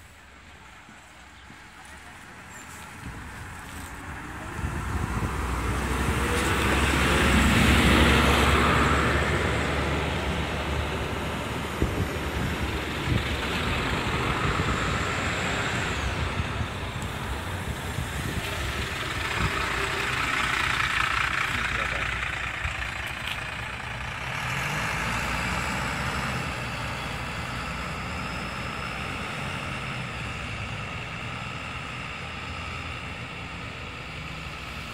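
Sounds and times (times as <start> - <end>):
bus engine rumble: 0.0 - 34.9
road noise: 0.0 - 34.9.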